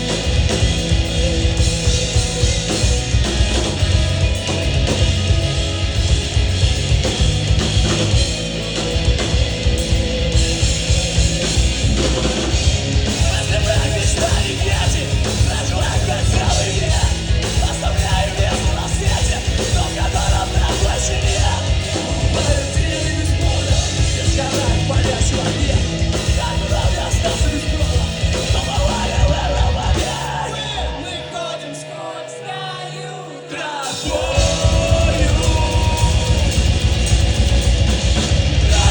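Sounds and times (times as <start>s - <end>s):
live rock band with vocals: 0.0s - 38.9s.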